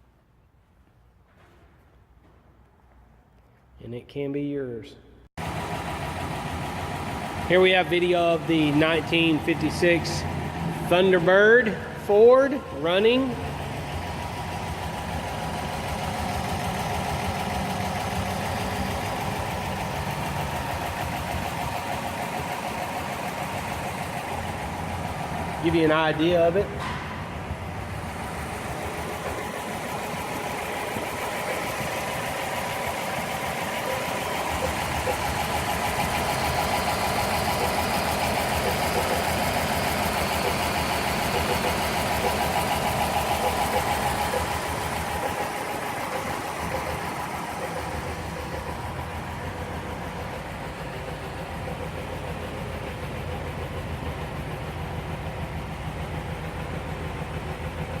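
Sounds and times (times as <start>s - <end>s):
car engine running: 5.4s - 58.0s.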